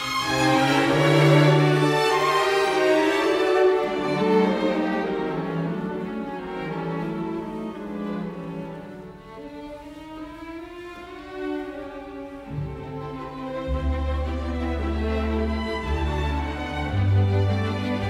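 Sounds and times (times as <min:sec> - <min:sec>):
bowed strings music: 0:00.0 - 0:18.0.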